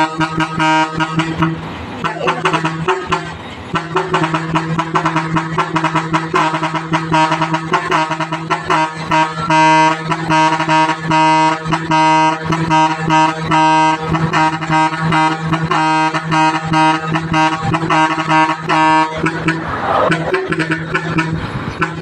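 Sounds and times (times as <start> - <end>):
brassy horn blaring short notes: 0.0 - 22.0.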